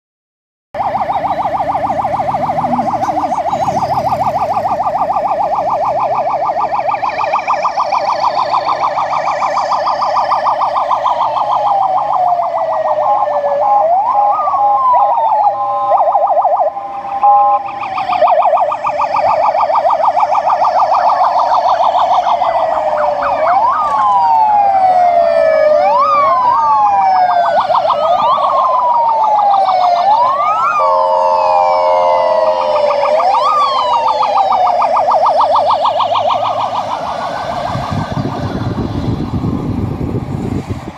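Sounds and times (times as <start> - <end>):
police sirens wailing: 0.8 - 40.9
police sirens yelping: 0.8 - 40.9.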